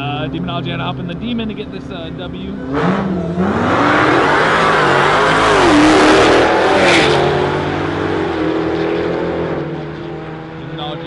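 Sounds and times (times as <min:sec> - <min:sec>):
car engines accelerating hard: 0:00.0 - 0:11.0.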